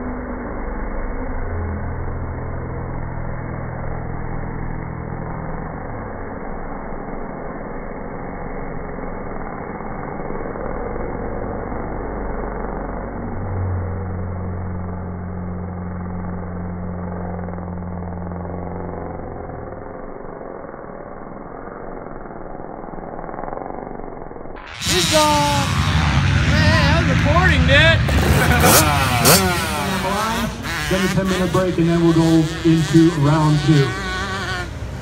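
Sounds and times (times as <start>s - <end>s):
vehicle engines running: 0.0s - 22.6s, 24.6s - 35.0s
low even hum: 0.0s - 35.0s
outdoor noise: 0.0s - 35.0s.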